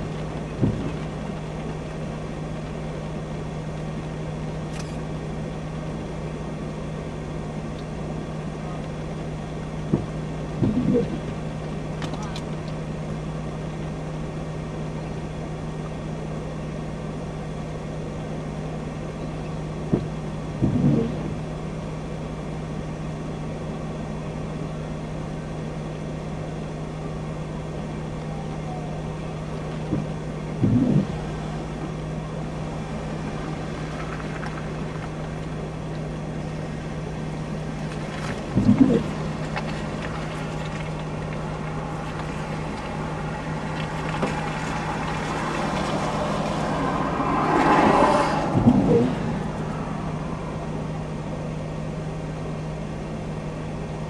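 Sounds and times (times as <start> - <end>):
vehicle hum and rumble: 0.0 - 54.0.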